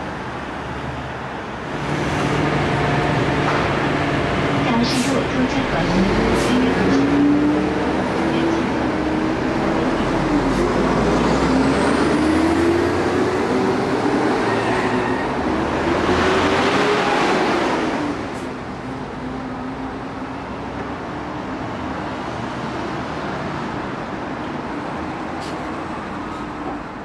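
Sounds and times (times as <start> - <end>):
bus engine pulling away: 0.0 - 27.0
road traffic noise: 0.0 - 27.0.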